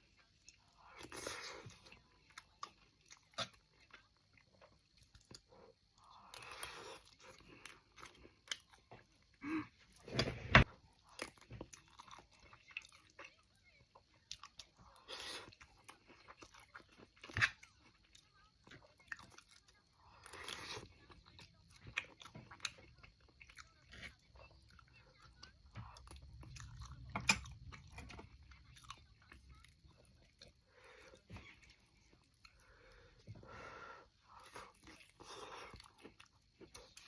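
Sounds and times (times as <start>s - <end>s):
person chewing food: 0.0s - 37.0s
food crunching: 0.2s - 33.0s.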